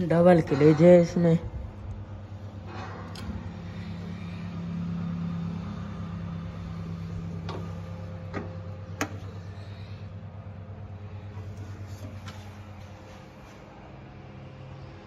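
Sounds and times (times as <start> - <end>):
diesel engine idling: 1.4 - 15.0.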